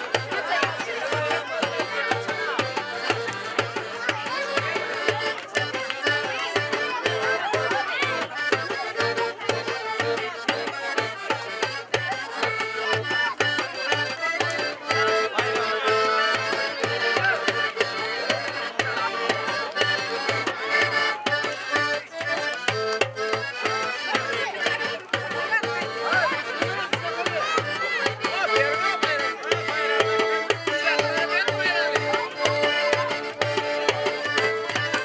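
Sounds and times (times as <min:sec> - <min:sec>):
folk dance music: 0:00.0 - 0:35.0.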